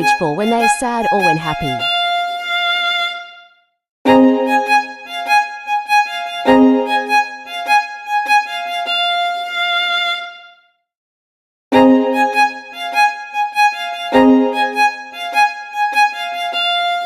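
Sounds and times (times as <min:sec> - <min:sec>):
violin melody: 0:00.0 - 0:10.7, 0:11.8 - 0:17.0.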